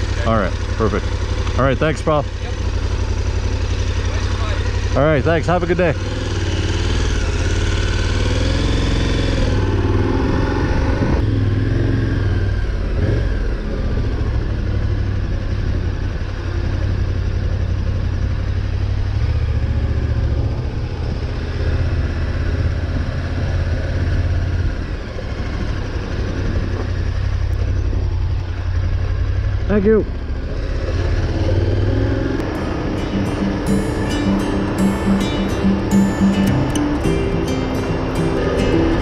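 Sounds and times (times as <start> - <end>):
motorcycle engine pulling away: 0.0 - 39.0.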